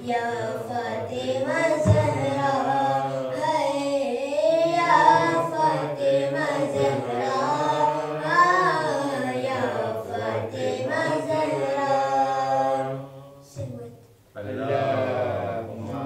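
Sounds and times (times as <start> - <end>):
boy singing a chant: 0.0 - 16.0.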